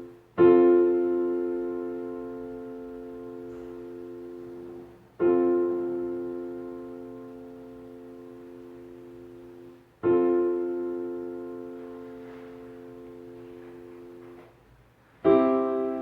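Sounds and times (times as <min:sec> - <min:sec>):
piano chords: 0:00.0 - 0:14.6, 0:15.2 - 0:16.0.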